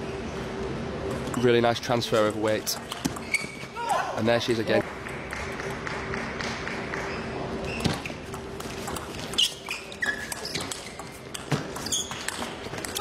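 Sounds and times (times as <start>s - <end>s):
faint hall hum: 0.0s - 13.0s.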